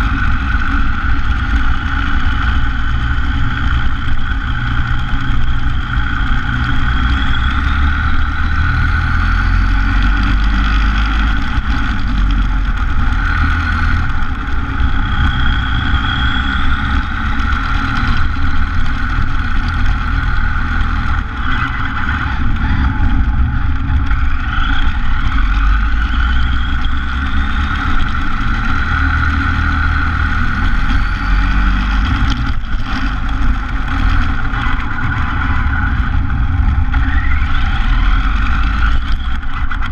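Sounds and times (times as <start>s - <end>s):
tyre and wind rumble: 0.0s - 39.9s.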